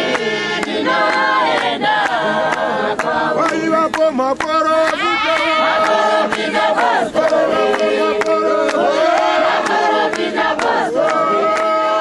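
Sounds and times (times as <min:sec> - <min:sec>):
congregation singing in harmony: 0:00.0 - 0:12.0.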